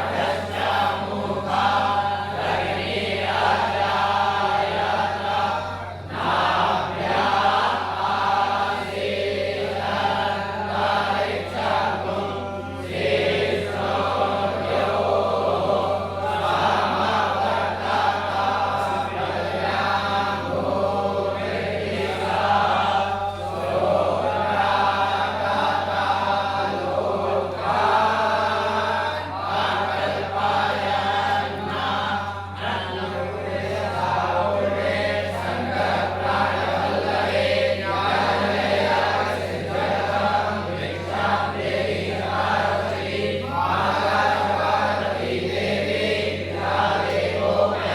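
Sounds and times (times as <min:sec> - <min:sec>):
steady low hum: 0:00.0 - 0:47.9
voices chanting in unison: 0:00.0 - 0:47.9.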